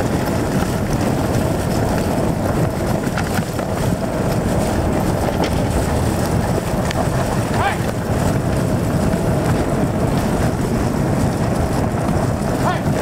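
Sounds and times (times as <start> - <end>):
sled wheels rolling on dirt: 0.0 - 13.0
wind on microphone: 0.0 - 13.0.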